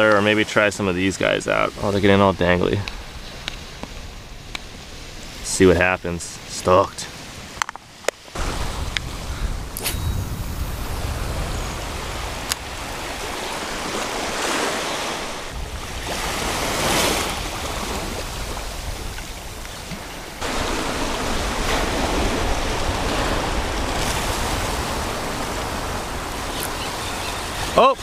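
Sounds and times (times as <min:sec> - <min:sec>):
small waves washing over sand and rock: 0:03.0 - 0:28.0.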